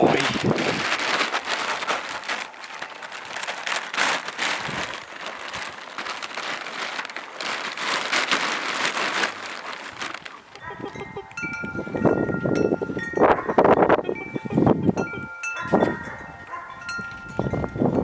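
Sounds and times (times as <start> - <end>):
plastic sheeting crinkling: 0.0 - 18.0.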